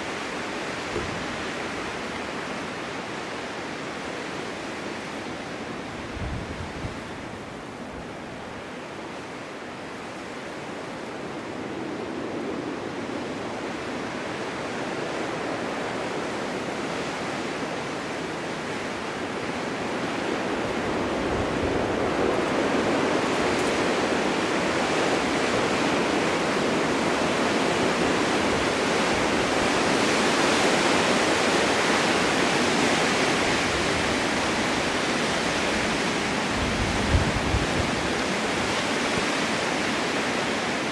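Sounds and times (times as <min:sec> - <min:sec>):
snowstorm wind rushing: 0:05.7 - 0:08.1, 0:10.4 - 0:40.9.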